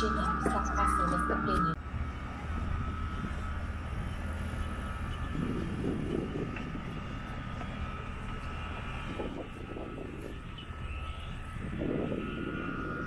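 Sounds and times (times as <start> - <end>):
airliner cabin engine drone: 0.0 - 13.0
faint steady whine: 0.0 - 13.0.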